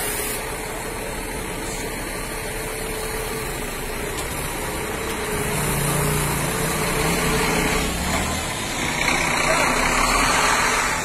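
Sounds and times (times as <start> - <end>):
coach diesel engine running: 0.0 - 11.0.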